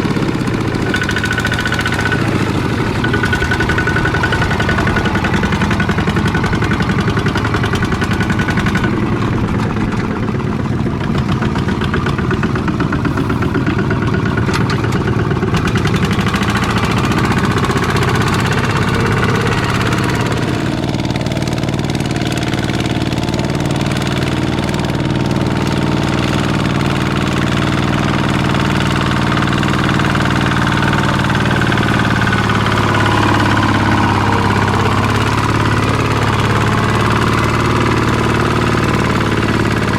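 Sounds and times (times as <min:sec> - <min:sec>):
tractor engine knocking: 0:00.0 - 0:39.9.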